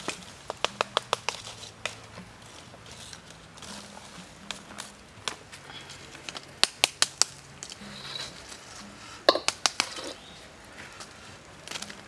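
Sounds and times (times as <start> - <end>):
embers popping and clicking: 0.0 - 10.4, 11.0 - 12.0
charcoal embers crackling: 0.0 - 12.0.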